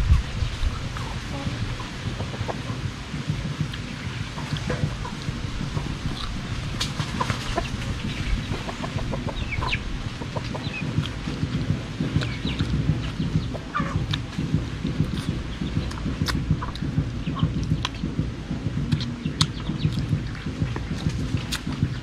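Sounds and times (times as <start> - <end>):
chickens clucking: 0.0 - 22.0
low steady rumble: 0.0 - 22.0.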